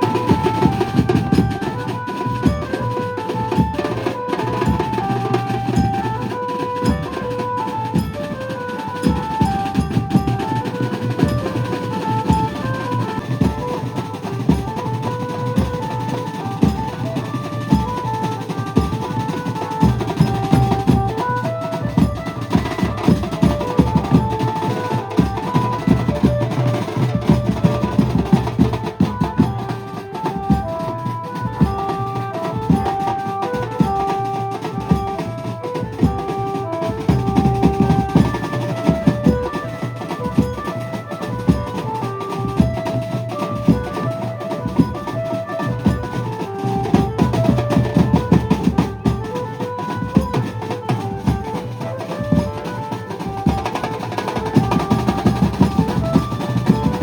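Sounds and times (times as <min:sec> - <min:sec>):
fast dense drumming: 0:00.0 - 0:57.0.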